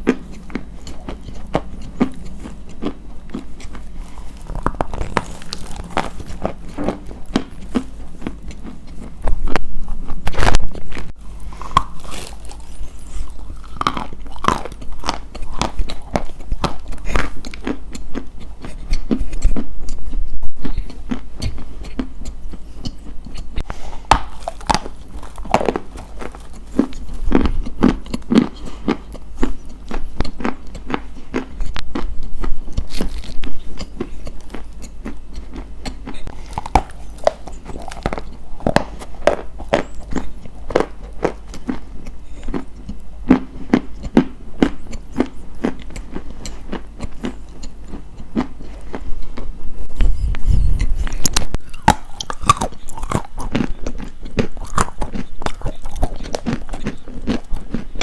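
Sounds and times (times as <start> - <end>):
crunchy chewing: 0.0 - 58.0
steady low hum: 0.0 - 58.0.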